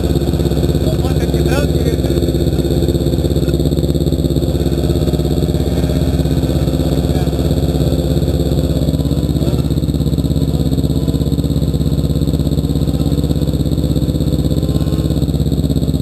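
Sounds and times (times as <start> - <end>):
snowmobile engine idling: 0.0 - 16.0.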